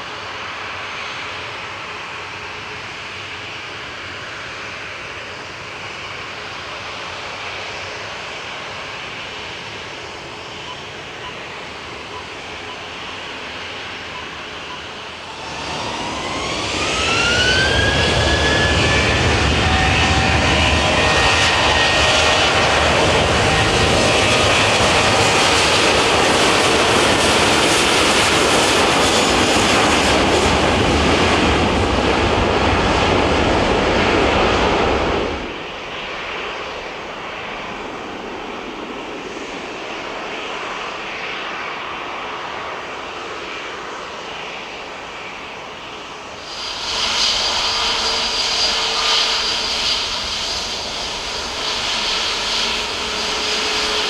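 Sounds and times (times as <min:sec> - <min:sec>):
jet engines spooling up: 0:00.2 - 0:54.0.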